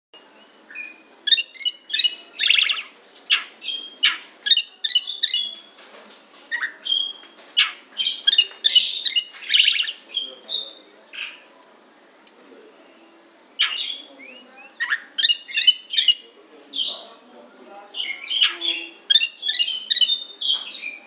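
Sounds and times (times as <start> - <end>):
songbird singing whistles and chatter: 0.2 - 11.5, 12.7 - 17.2, 17.9 - 21.0.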